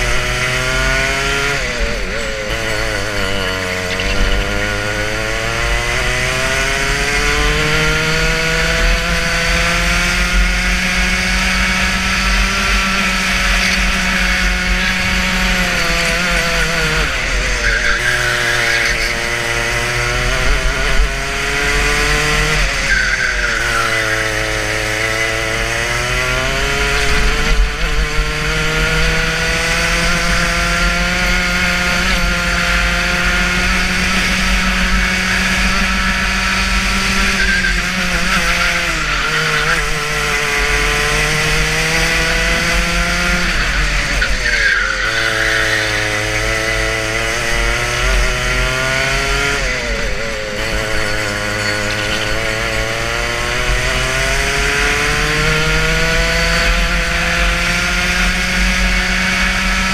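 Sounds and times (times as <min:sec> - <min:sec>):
racing kart engine accelerating: 0:00.0 - 0:59.9.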